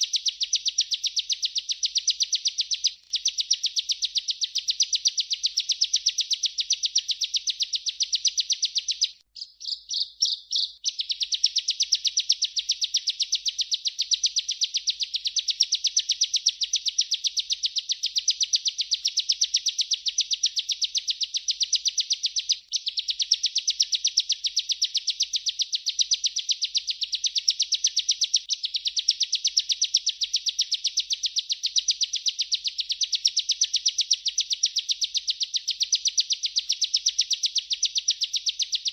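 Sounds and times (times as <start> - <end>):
bird singing rapid trill: 0.0 - 38.9.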